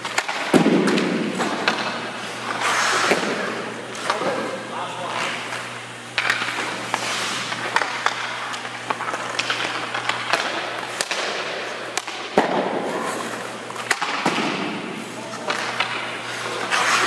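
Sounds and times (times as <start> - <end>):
sharp clacks of sticks and pucks: 0.0 - 4.3, 5.1 - 17.0
skates scraping on ice: 0.0 - 17.0
steady low hum: 0.0 - 17.0.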